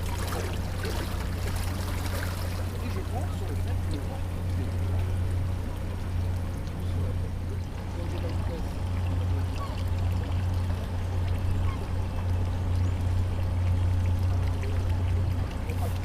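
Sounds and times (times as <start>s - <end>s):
motorboat engine drone: 0.0s - 16.0s
water splashing along hull: 0.0s - 16.0s.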